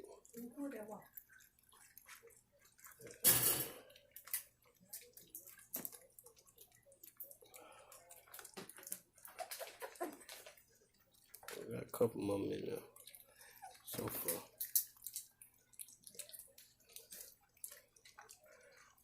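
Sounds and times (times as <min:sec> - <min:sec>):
puppies lapping wet food: 0:00.0 - 0:19.0.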